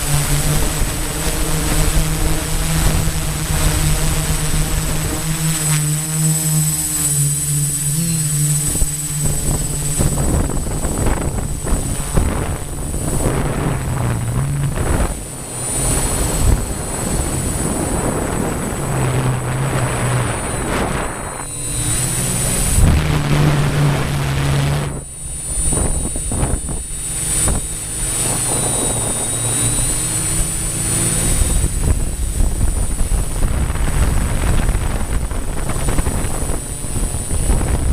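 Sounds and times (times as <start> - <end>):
drone motors humming: 0.0 - 37.9
high whine: 0.0 - 37.9
wind rushing across microphone: 7.3 - 37.9.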